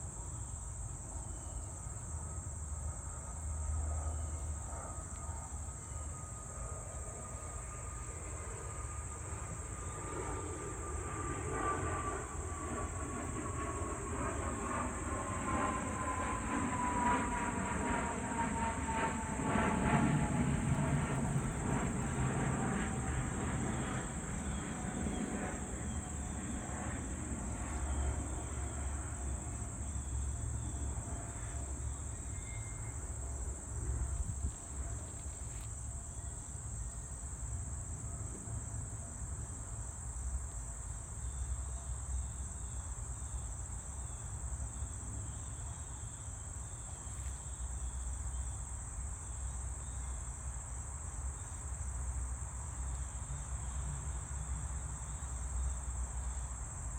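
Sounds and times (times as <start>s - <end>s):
crickets trilling: 0.0s - 56.9s.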